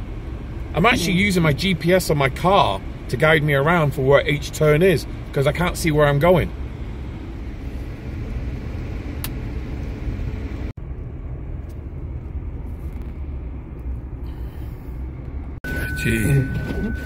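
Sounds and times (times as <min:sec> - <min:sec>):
truck engine rumble from cab: 0:00.0 - 0:17.0.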